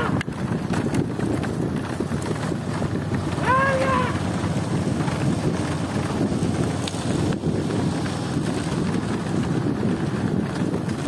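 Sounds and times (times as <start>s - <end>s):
low rumble of movement: 0.0s - 11.0s
wind buffeting microphone: 0.0s - 11.0s.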